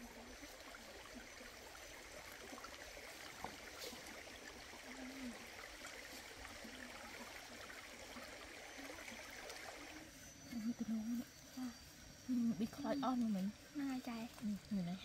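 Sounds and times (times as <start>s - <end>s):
flowing stream: 0.0s - 15.0s.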